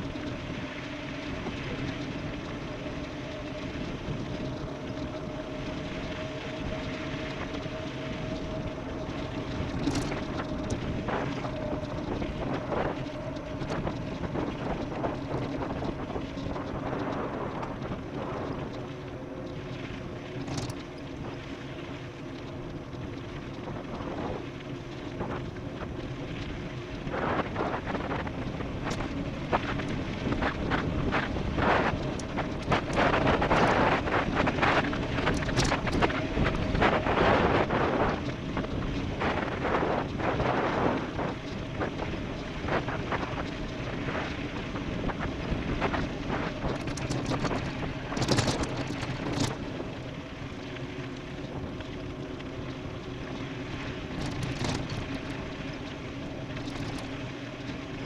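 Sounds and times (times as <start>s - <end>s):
low hum of rolling bike: 0.0s - 58.0s
wind rushing over microphone: 0.0s - 58.0s.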